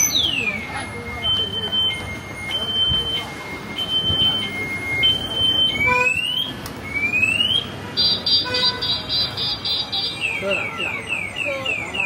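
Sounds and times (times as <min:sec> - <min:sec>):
car alarm: 0:00.0 - 0:12.0.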